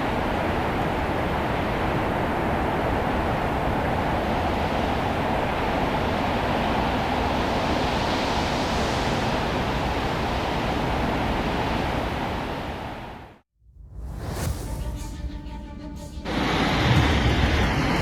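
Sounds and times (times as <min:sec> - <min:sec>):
rushing roar of torrent: 0:00.0 - 0:13.4, 0:16.2 - 0:18.0.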